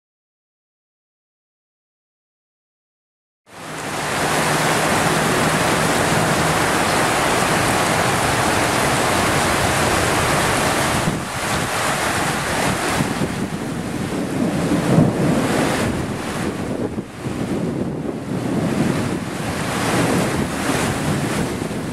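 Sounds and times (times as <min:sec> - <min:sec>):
heavy rain: 0:03.5 - 0:21.9
strong wind: 0:03.5 - 0:21.9
wind buffeting microphone: 0:03.7 - 0:21.9.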